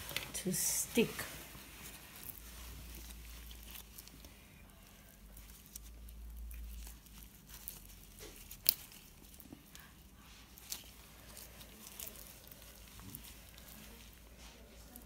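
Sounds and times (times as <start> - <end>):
squishing and rustling of meat: 0.0 - 15.0.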